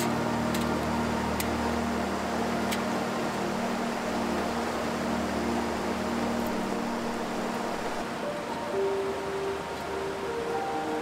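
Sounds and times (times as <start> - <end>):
mountain stream rushing: 0.0 - 11.0
soft background music: 0.0 - 11.0.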